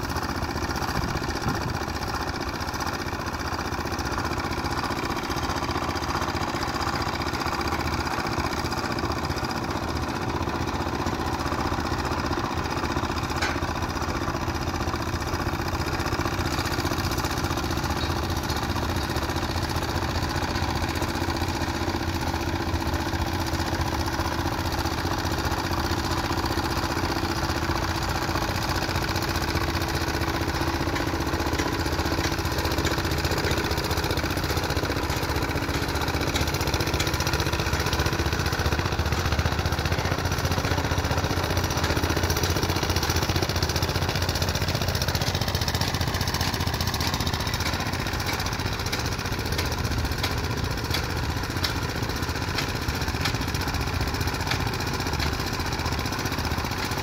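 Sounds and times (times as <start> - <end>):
plate compactor running: 0.0 - 57.0.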